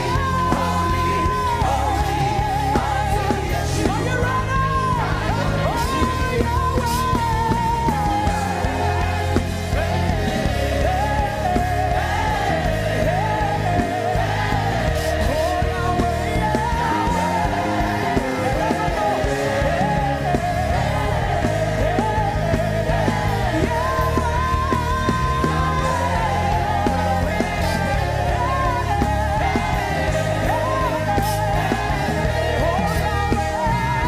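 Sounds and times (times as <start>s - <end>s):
band playing: 0.0s - 34.0s.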